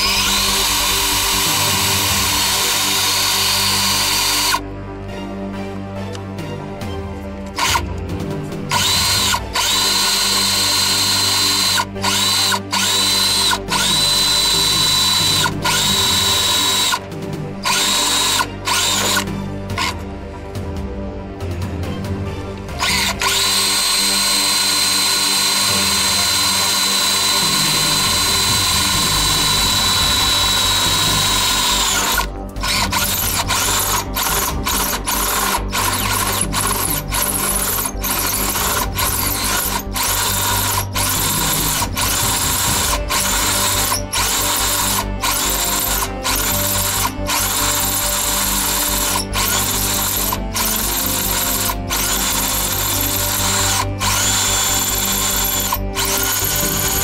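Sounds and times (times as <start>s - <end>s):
power drill drilling into metal: 0.0s - 4.7s, 7.6s - 7.9s, 8.7s - 20.0s, 22.8s - 57.0s.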